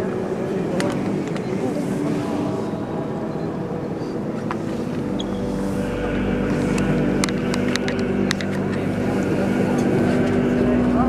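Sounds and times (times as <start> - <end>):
echoing crowd hubbub: 0.0 - 11.0
low hum: 0.0 - 11.0.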